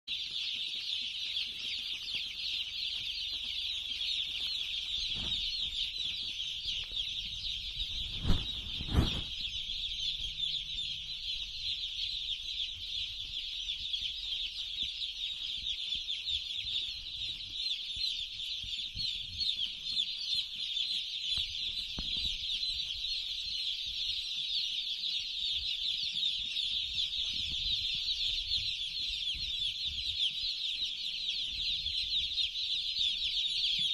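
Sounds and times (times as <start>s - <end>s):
chickens cheeping: 0.1s - 33.9s.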